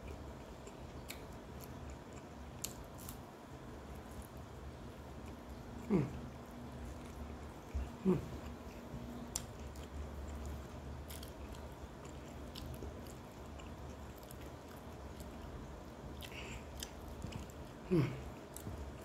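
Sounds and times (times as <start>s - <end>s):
person chewing food: 0.0s - 3.2s, 4.0s - 19.0s
steady low hum: 0.0s - 19.0s.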